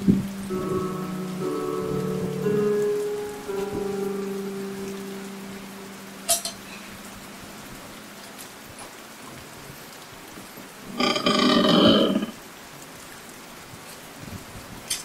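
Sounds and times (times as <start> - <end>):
steady rain-like hiss: 0.0 - 15.0.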